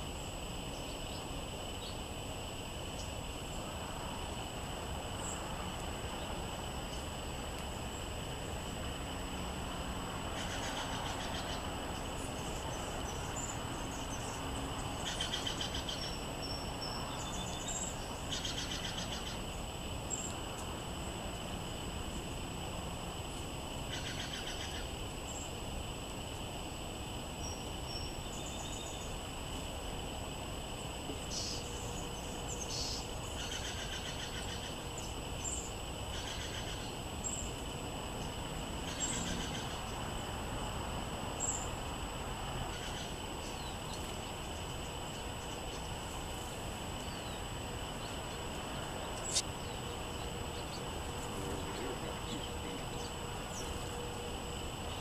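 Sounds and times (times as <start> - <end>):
songbirds chirping trills: 0.0 - 55.0
steady background noise: 0.0 - 55.0.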